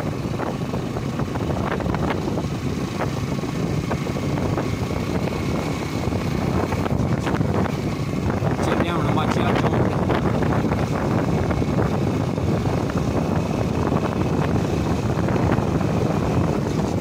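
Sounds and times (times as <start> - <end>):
motorcycle running at speed: 0.0 - 17.0
wind rushing over microphone: 0.0 - 17.0.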